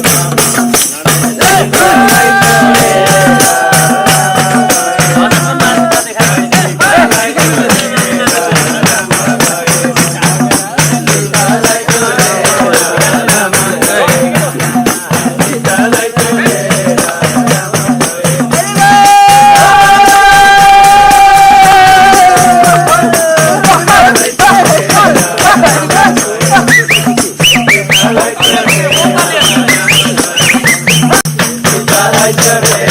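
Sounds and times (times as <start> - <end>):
jingling percussion beat: 0.0 - 32.9
person singing: 0.6 - 32.9.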